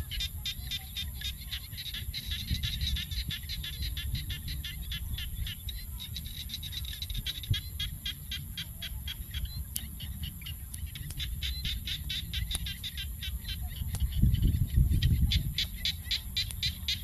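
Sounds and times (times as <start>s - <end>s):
animal chirping rapidly: 0.0s - 17.0s.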